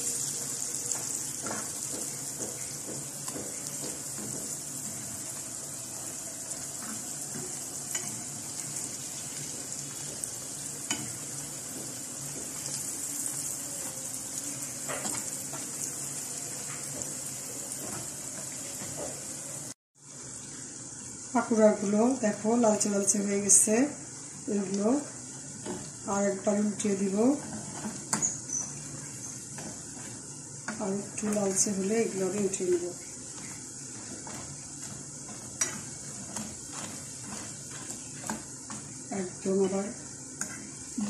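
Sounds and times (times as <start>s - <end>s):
hot oil sizzling: 0.0s - 41.0s.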